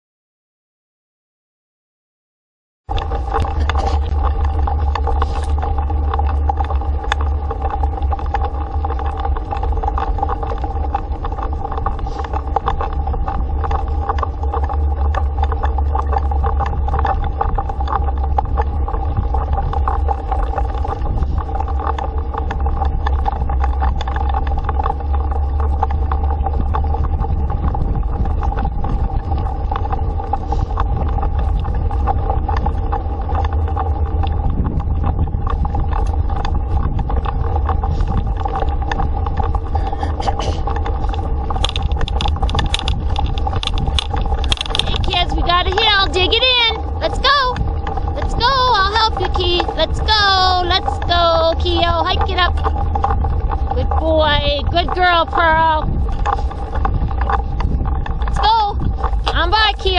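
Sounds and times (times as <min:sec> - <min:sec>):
wind and tyres rumbling: 0:02.8 - 0:59.9
constant hum: 0:02.9 - 0:59.9
gravel clicks and rattles: 0:02.9 - 0:59.9.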